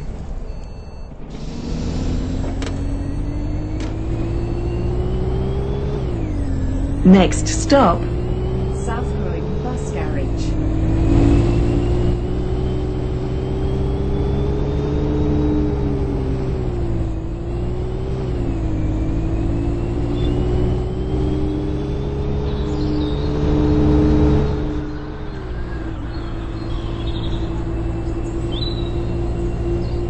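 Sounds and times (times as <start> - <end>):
bus engine rumble and whine: 0.0 - 30.0.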